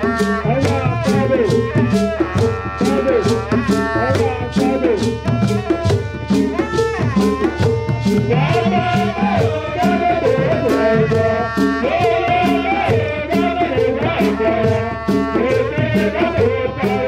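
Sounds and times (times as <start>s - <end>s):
hand drums beating: 0.0s - 17.0s
sliding melody line: 0.0s - 17.0s.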